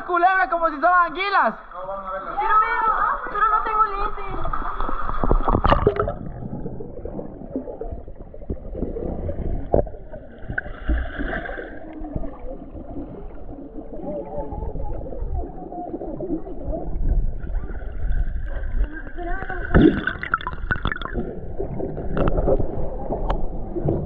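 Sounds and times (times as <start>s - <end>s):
underwater sloshing and gurgling: 1.6s - 24.0s.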